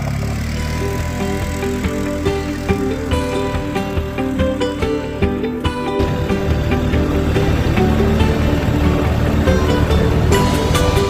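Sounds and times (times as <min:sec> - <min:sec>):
vehicle engine running low: 0:00.0 - 0:11.0
melody over a steady beat: 0:00.6 - 0:11.0.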